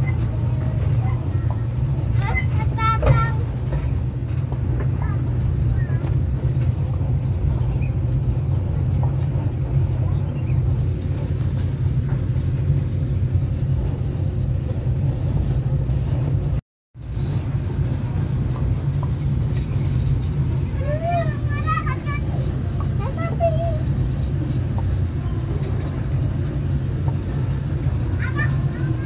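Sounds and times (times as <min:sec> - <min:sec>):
train rumbling along track: 0:00.0 - 0:29.0.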